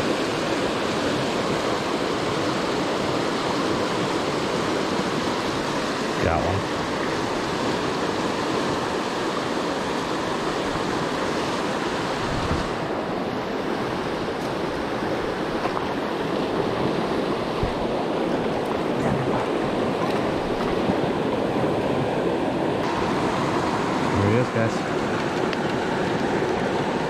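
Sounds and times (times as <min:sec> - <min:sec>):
river rapids rushing: 0:00.0 - 0:27.0.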